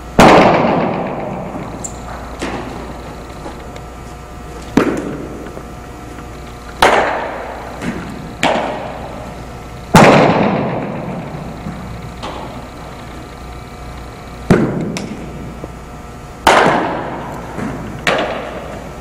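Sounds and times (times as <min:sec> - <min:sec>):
baseball impacts echoing indoors: 0:00.0 - 0:19.0.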